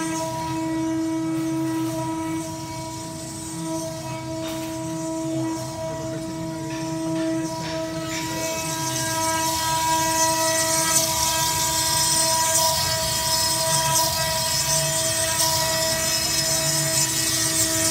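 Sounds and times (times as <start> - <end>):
hiss of stone cutting and spray: 0.0 - 17.9
router spindle whine: 0.0 - 17.9.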